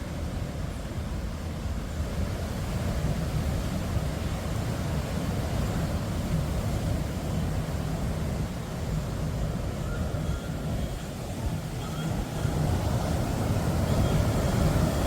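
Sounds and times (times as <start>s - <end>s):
surf washing onto beach: 0.0s - 15.0s
wind buffeting microphone: 0.1s - 15.0s.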